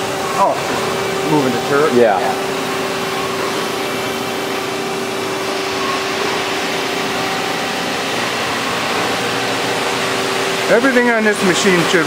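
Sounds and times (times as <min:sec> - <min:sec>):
lathe machine whirring: 0:00.0 - 0:12.0.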